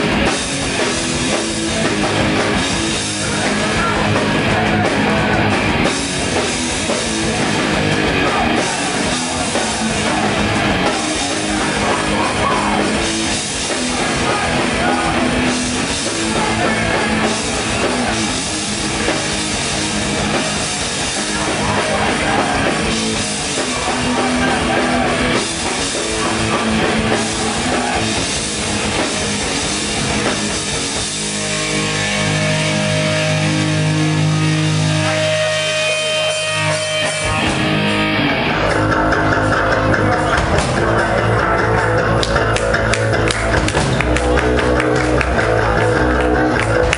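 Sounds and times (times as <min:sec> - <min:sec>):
fast pounding drums: 0:00.0 - 0:32.6, 0:38.6 - 0:46.9
distorted electric guitars: 0:00.0 - 0:46.9.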